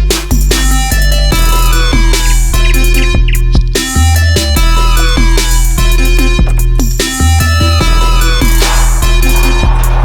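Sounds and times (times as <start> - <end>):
electronic music with steady beat: 0.0 - 10.0
deep bass hit: 1.3 - 10.0.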